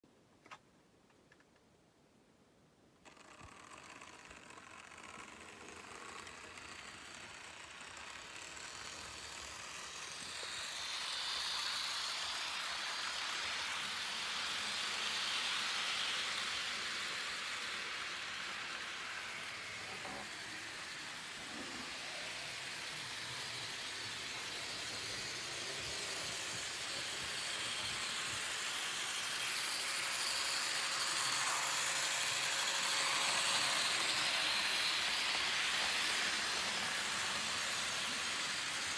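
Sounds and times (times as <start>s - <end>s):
model train running on track: 3.0s - 38.9s.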